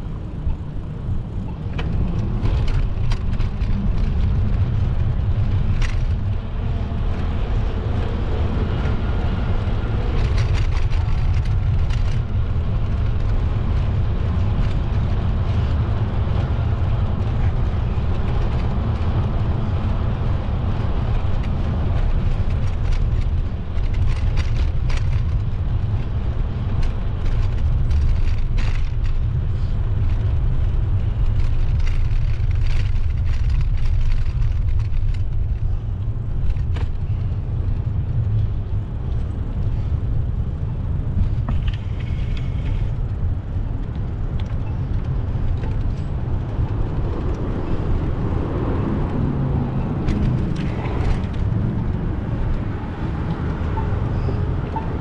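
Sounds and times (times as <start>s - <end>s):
faint street traffic: 0.0s - 55.0s
wind rumbling on microphone: 0.0s - 55.0s.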